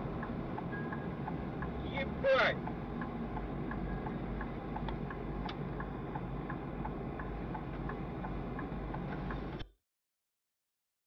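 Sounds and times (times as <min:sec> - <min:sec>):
regular ticking: 0:00.0 - 0:09.6
vehicle cab rumble: 0:00.0 - 0:09.7.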